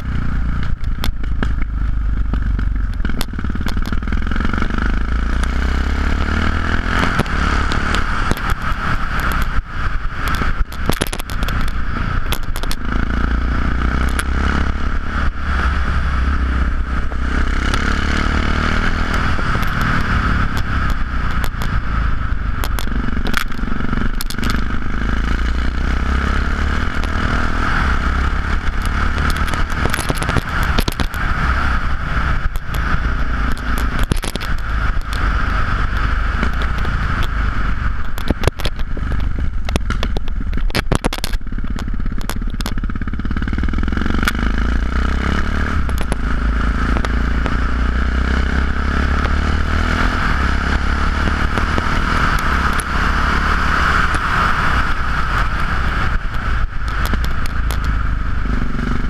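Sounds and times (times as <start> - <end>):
exhaust crackles and clicks: 0.0 - 59.0
motorcycle engine running: 0.0 - 59.0
wind noise on microphone: 0.0 - 59.0.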